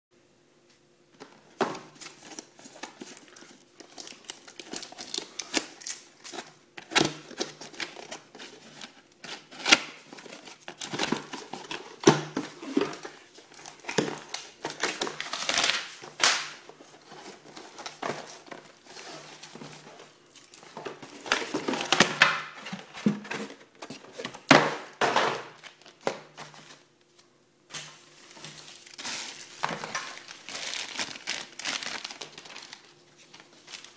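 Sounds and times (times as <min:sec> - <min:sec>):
cardboard and paper handled: 0:01.2 - 0:24.5, 0:25.5 - 0:33.9
plastic bags crinkling: 0:01.6 - 0:24.5, 0:25.4 - 0:26.9, 0:28.0 - 0:33.9.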